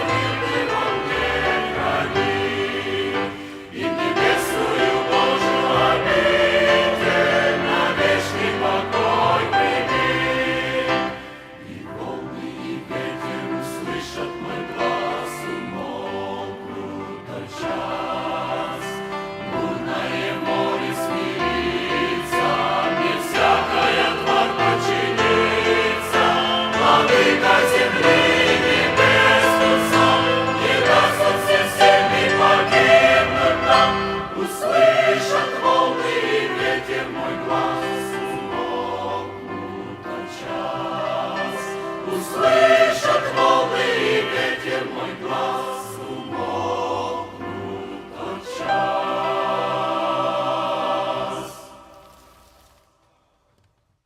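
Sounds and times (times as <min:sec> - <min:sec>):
choir singing a psalm: 0:00.0 - 0:52.8.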